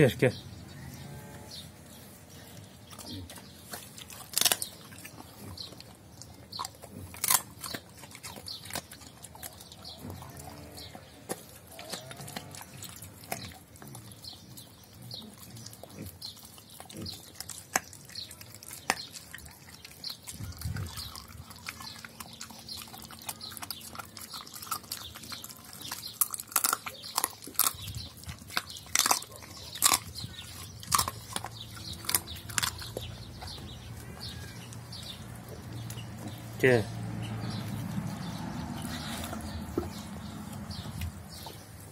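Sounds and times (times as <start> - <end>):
dog chewing food: 1.9 - 41.9.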